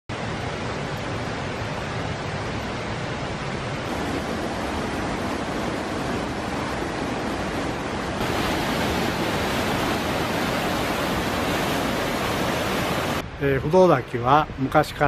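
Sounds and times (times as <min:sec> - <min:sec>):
stream rushing over boulders: 0:00.1 - 0:13.9.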